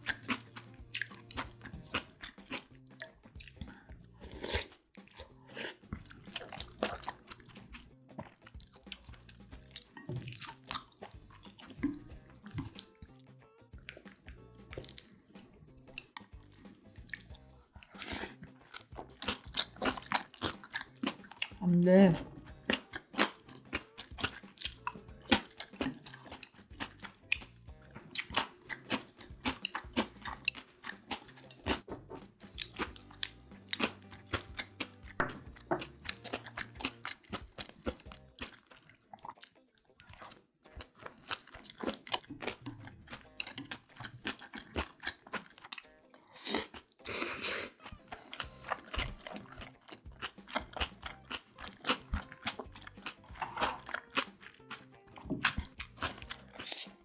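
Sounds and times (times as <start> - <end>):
close chewing and crunching: 0.0 - 57.0.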